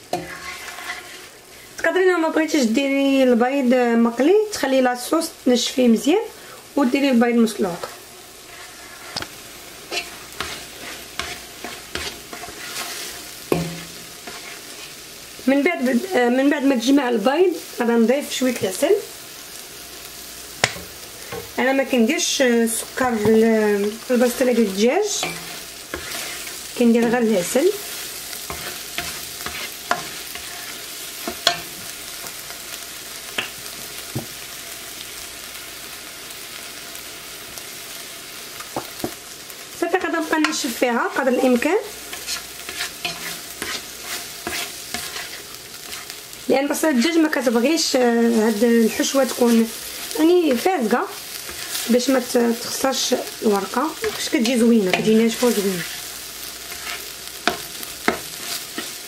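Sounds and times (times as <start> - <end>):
spoon stirring and scraping pan: 0.0 - 2.0, 7.8 - 18.8, 19.4 - 34.4, 37.7 - 59.0
eggs hissing in a pot: 0.0 - 2.8, 5.1 - 59.0.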